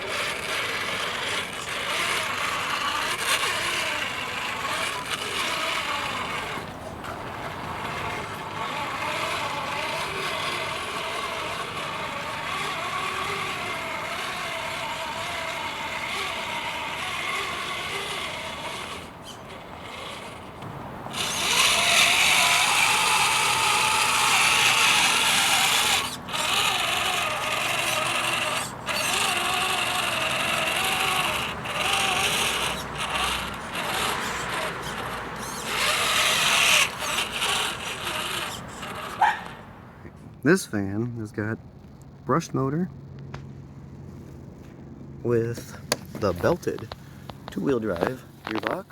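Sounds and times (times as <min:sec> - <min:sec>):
electric motor and gearbox whining: 0:00.0 - 0:40.1, 0:45.6 - 0:48.9.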